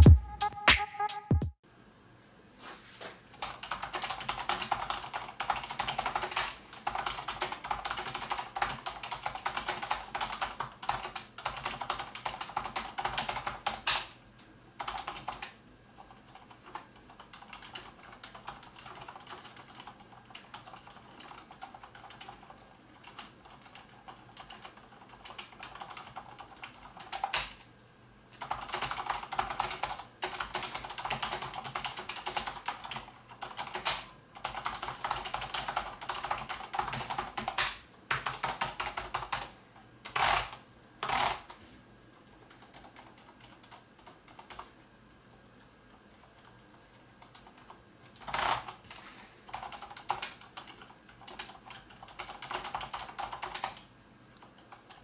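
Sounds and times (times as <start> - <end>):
mechanical keyboard typing: 3.4 - 14.2, 14.8 - 27.7, 28.4 - 41.6, 42.4 - 44.7, 47.2 - 48.8, 49.4 - 55.0.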